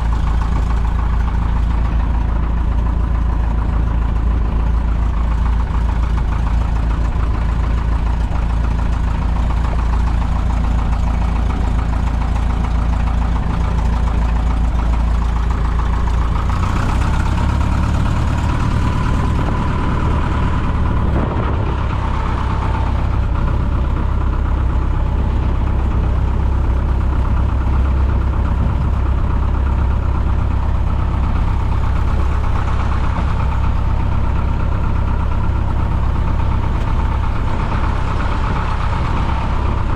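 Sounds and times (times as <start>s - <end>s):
airplane engine and propeller: 0.0s - 39.9s.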